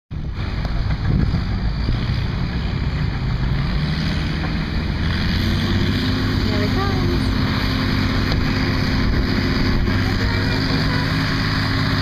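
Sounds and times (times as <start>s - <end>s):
tractor engine under load: 0.1s - 12.0s.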